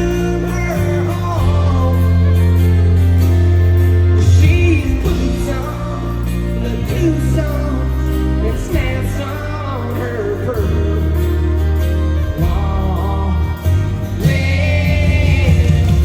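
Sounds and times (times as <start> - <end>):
person singing: 0.0 - 3.3, 3.9 - 16.0
live country band: 0.0 - 16.0.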